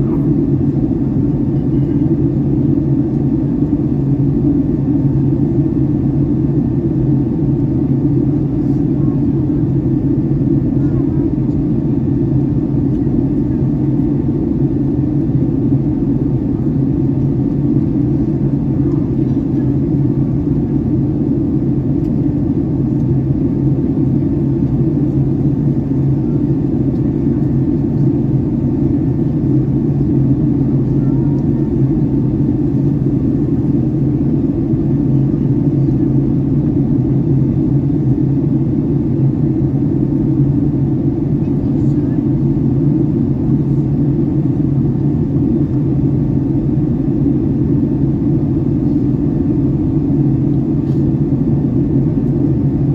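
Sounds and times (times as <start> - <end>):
airliner cabin engine drone: 0.0 - 52.9.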